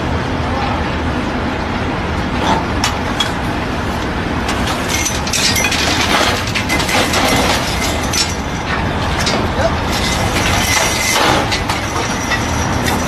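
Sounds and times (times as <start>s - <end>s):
drilling rig machinery rumbling: 0.0s - 13.0s.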